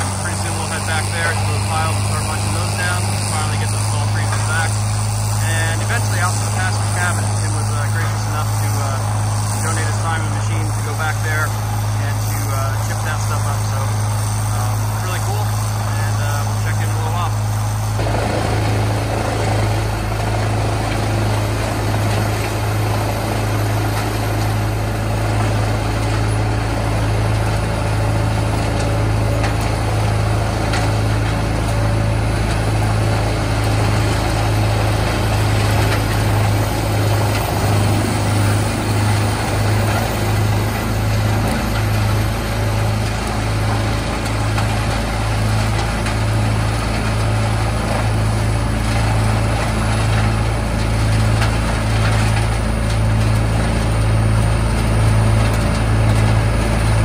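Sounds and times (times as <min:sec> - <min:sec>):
wood chipper diesel engine: 0:00.0 - 0:57.0.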